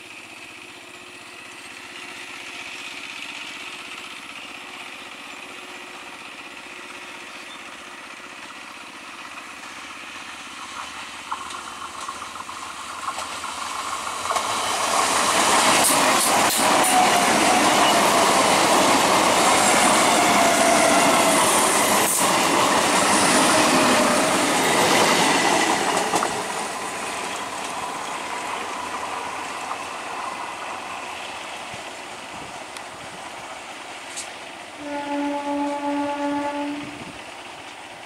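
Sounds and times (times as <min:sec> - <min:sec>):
train rumble and wheel clatter: 0:00.0 - 0:38.0.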